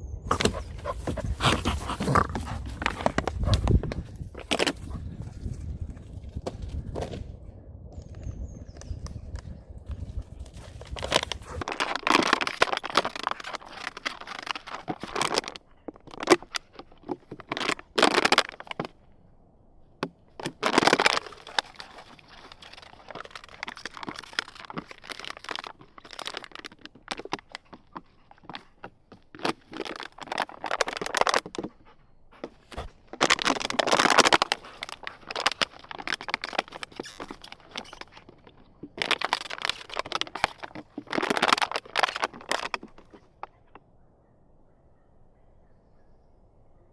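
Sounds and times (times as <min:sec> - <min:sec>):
crunching crackling rustle: 0:00.3 - 0:07.4, 0:08.8 - 0:43.8.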